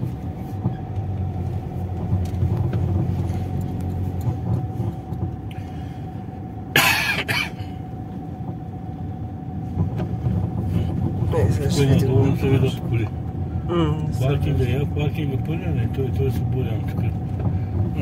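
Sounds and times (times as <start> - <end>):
engine and road rumble: 0.0 - 18.0
faint steady whine: 0.0 - 18.0.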